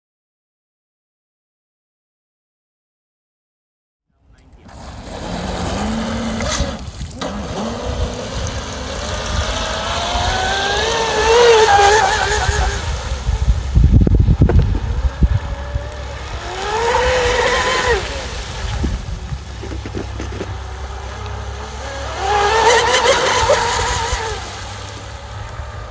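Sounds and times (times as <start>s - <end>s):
low buffeting noise: 4.1s - 25.9s
electric motor whining: 4.4s - 25.9s.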